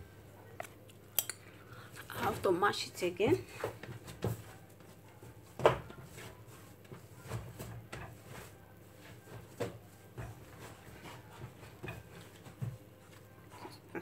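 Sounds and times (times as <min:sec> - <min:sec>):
hands kneading dough: 0:01.8 - 0:14.0.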